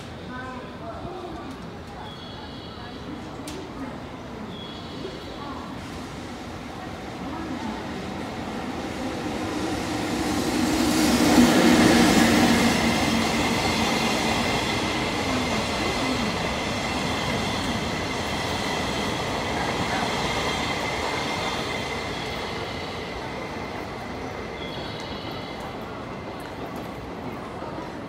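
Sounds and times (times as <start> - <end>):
electric locomotive passing: 0.0 - 28.0.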